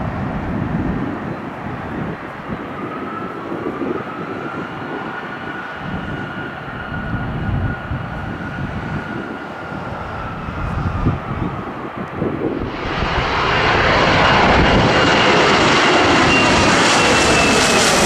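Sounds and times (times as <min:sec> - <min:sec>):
distant jet engines whining: 0:00.0 - 0:18.0
wind buffeting microphone: 0:00.0 - 0:18.0.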